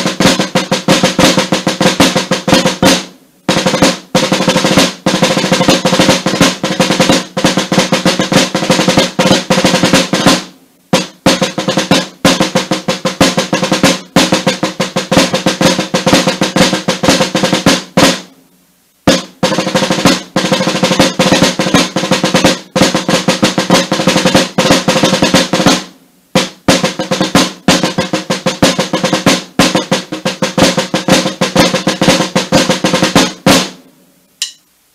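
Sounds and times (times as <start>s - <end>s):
snare drum rolls with sticks: 0.0s - 34.7s.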